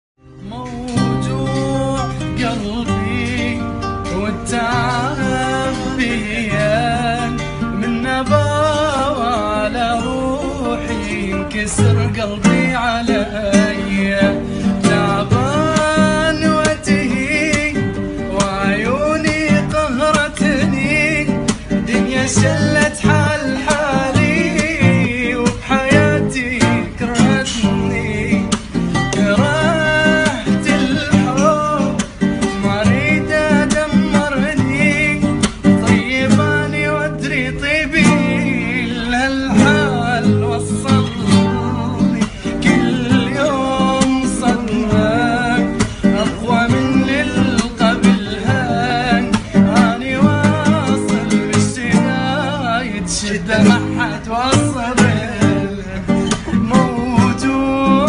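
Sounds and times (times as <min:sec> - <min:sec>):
man singing: 0:00.2 - 0:58.0
plucked string accompaniment: 0:00.2 - 0:58.0.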